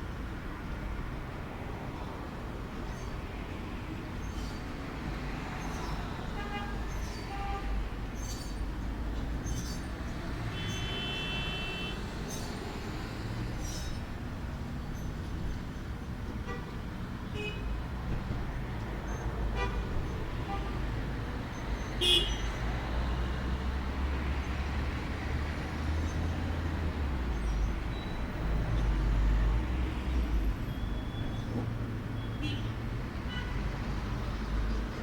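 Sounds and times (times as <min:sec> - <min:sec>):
low traffic rumble: 0:00.0 - 0:35.0.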